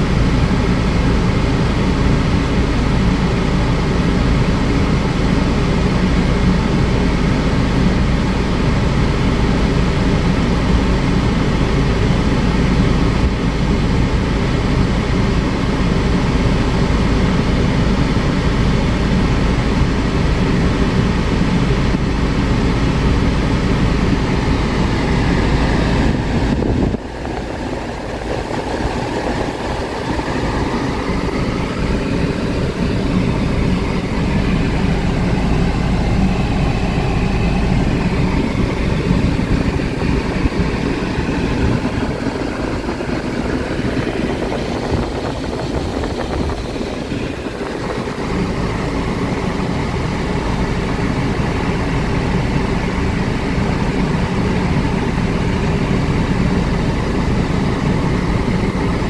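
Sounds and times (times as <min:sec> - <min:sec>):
air conditioning blowing: 0:00.0 - 0:59.0
engine idling rumble: 0:00.0 - 0:59.0.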